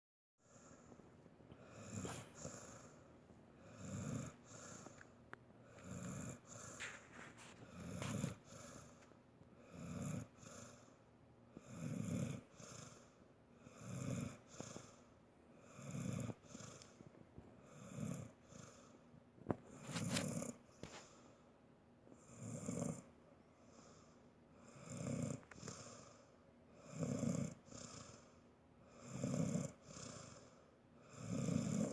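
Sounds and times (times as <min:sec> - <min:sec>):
heavy snoring: 0:01.6 - 0:03.0, 0:03.6 - 0:17.0, 0:17.6 - 0:19.0, 0:19.7 - 0:21.2, 0:22.2 - 0:31.9.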